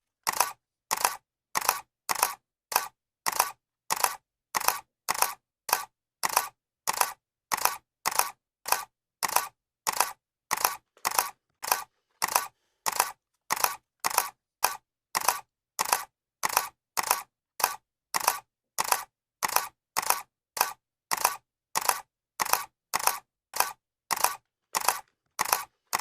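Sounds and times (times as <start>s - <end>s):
camera shutter clicking: 0.3s - 26.0s.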